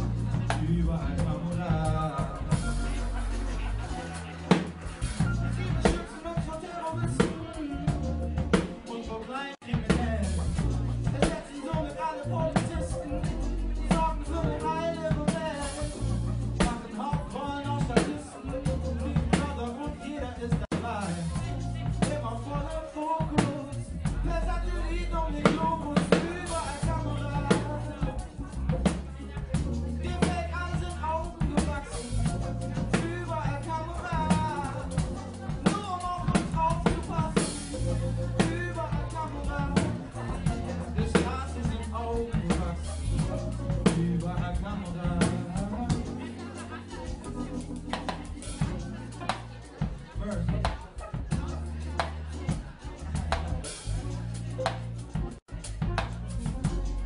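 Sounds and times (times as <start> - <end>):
acoustic drum kit: 0.0 - 57.0
bending melodic voice line: 0.0 - 57.0
deep bass notes: 0.0 - 57.0
person rapping: 0.0 - 57.0.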